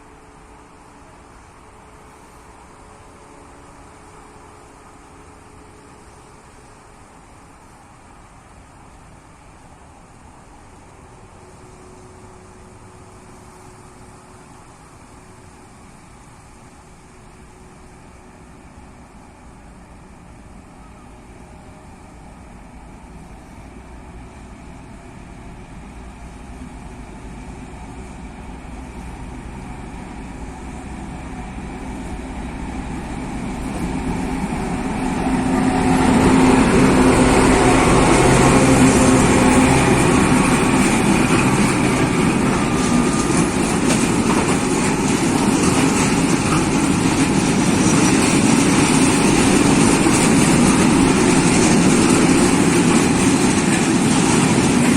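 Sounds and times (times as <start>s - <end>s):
diesel train engine drone: 0.0s - 54.9s.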